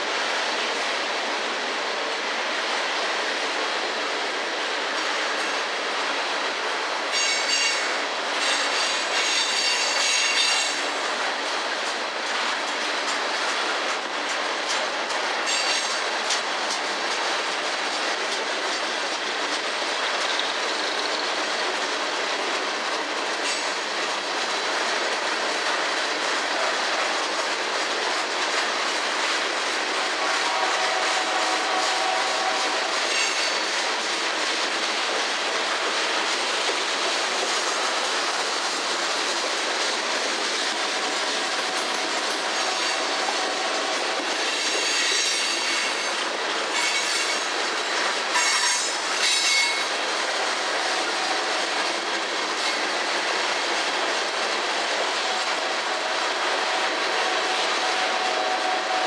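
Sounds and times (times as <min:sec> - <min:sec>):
train cars rumbling on steel wheels: 0:00.0 - 0:59.0
rail joint clacks: 0:04.7 - 0:59.0.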